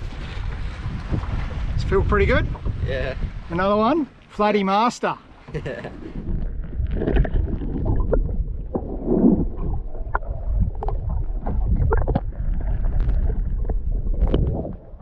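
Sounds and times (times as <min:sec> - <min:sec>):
underwater rumble and gurgle: 0:00.0 - 0:03.6, 0:05.4 - 0:15.0.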